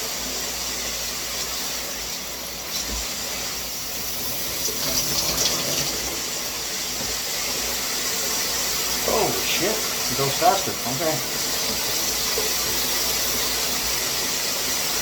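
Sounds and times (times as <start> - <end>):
shower head spraying water: 1.2 - 15.0.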